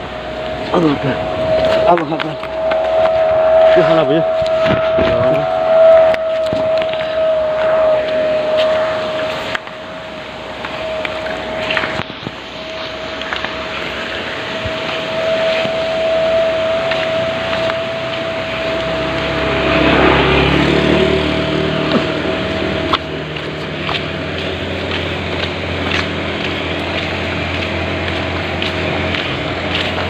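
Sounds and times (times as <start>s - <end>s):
high-pitched tone: 0.0s - 30.0s
vehicle engine running: 0.0s - 30.0s.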